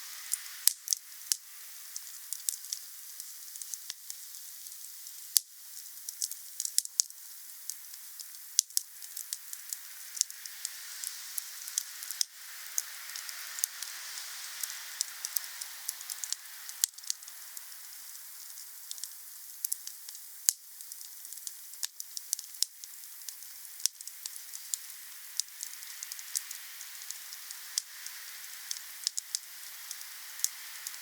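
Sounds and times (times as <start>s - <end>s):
campfire hissing: 0.0s - 31.0s
campfire crackling and popping: 0.3s - 14.0s, 14.6s - 31.0s.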